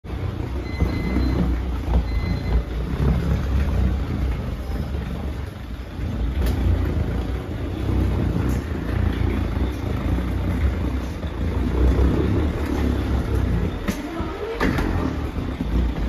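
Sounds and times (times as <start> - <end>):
rolling bag wheels rumbling: 0.0 - 16.0.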